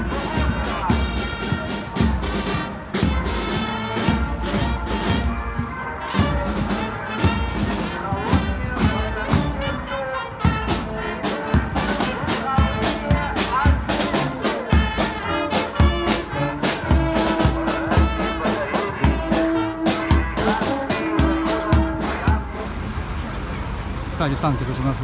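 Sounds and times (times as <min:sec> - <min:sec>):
regular drum beat: 0:00.0 - 0:09.8, 0:10.4 - 0:22.5
marching brass band playing: 0:00.0 - 0:23.2.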